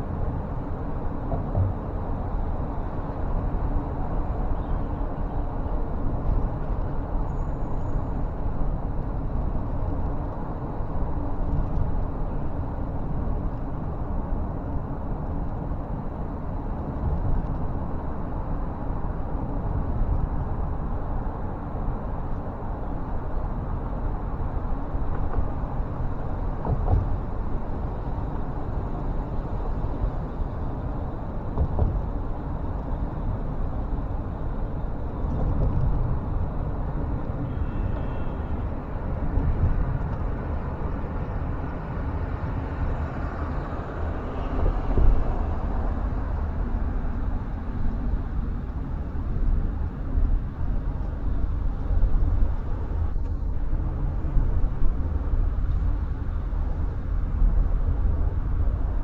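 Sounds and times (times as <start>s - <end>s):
tyre and road noise: 0.0s - 59.0s
wind: 0.0s - 59.0s.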